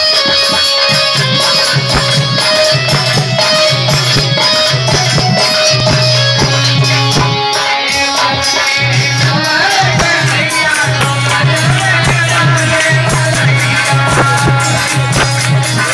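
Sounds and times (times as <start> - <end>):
folk dance song: 0.0 - 15.9.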